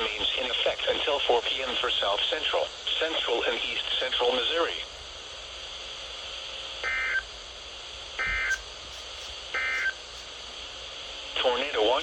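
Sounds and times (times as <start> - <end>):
steady radio hiss: 0.0 - 12.0.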